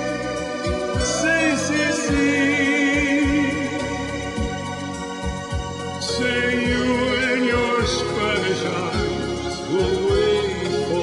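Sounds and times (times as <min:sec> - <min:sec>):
orchestra playing slow ballad: 0:00.0 - 0:11.0.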